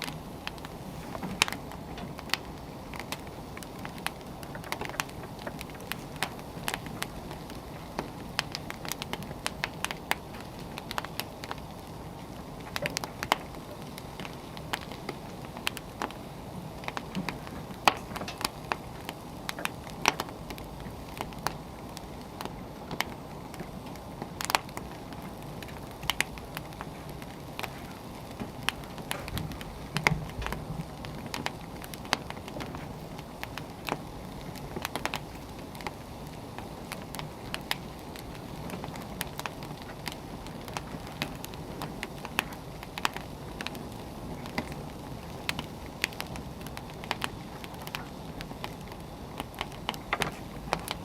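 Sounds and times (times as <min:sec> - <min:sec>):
soft steady rush: 0:00.0 - 0:51.0
wood fire crackling: 0:00.0 - 0:51.0.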